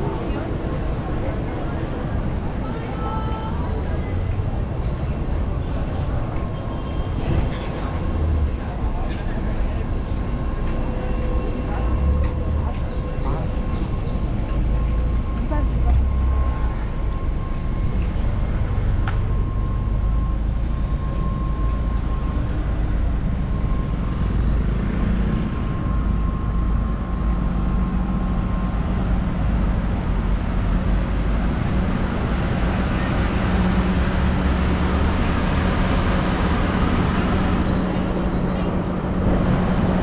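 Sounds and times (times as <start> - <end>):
vehicle engine rumble: 0.0 - 40.0.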